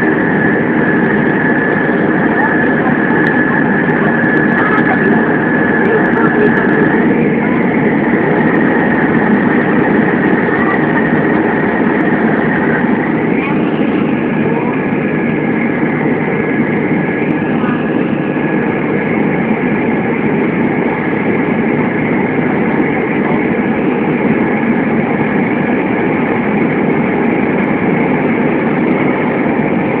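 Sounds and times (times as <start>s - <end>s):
jet cabin engine rush: 0.0s - 30.0s.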